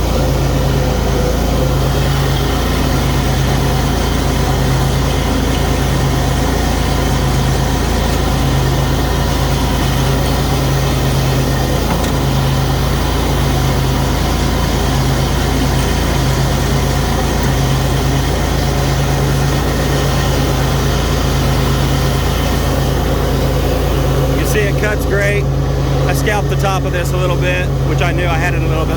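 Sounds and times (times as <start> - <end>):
mower engine running: 0.0 - 28.9.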